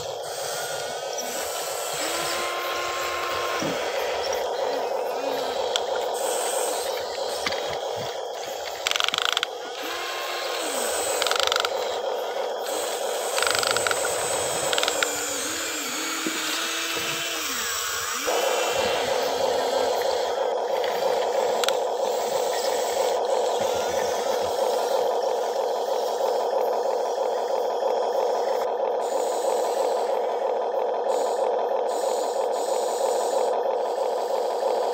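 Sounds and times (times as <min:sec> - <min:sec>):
small gear motors whirring: 0:00.0 - 0:34.9.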